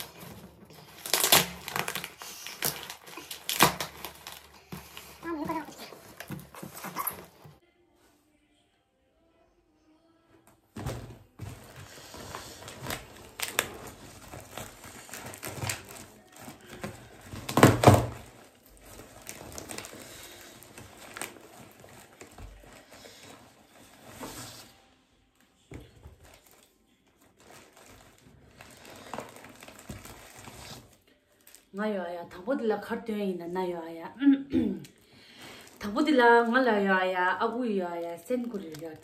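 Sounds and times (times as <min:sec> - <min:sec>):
plastic wrapping tearing and crinkling: 0:00.0 - 0:07.6, 0:10.8 - 0:31.8, 0:34.9 - 0:39.0.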